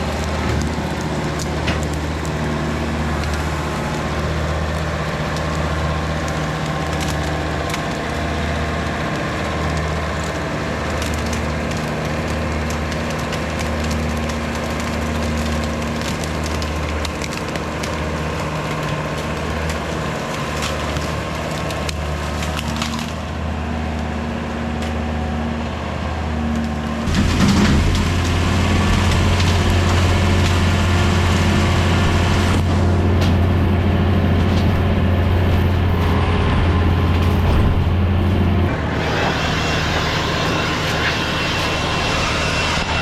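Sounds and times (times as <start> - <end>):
bamboo stalks cracking and splintering: 0.0 - 25.2, 26.5 - 43.0
tractor diesel engine droning: 0.0 - 43.0.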